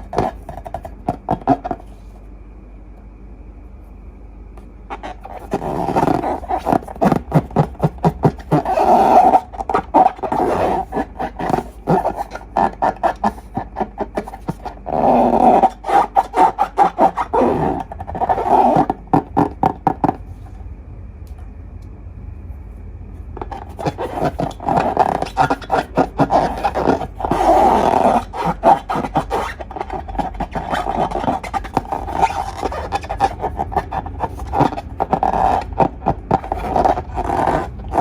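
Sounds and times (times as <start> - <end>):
rubbery balloon squeaks: 0.0 - 2.0, 4.9 - 20.3, 23.4 - 38.0.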